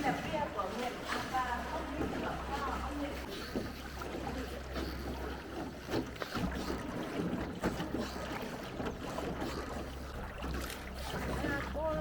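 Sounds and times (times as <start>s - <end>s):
oars splashing in water: 0.0s - 12.0s.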